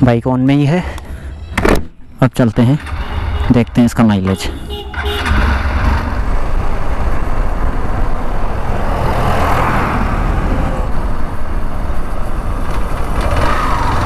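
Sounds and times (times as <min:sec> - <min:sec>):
road and wind rumble: 0:00.0 - 0:14.0.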